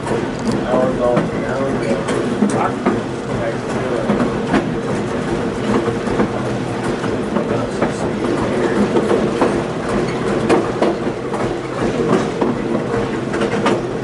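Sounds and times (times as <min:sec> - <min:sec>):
train rumbling on track: 0:00.0 - 0:14.0
wheels clicking over rail joints: 0:00.0 - 0:14.0.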